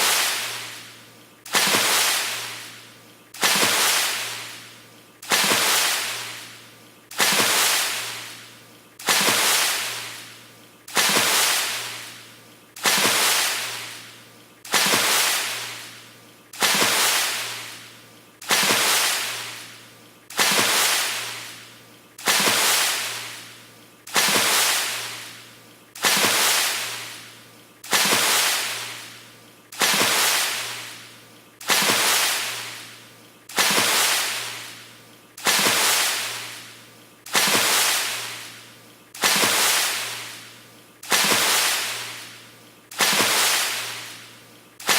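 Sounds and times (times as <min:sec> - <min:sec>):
fast water splash: 0:00.0 - 0:00.9, 0:01.5 - 0:02.8, 0:03.4 - 0:14.1, 0:14.7 - 0:23.5, 0:24.1 - 0:25.4, 0:26.0 - 0:38.6, 0:39.2 - 0:44.9.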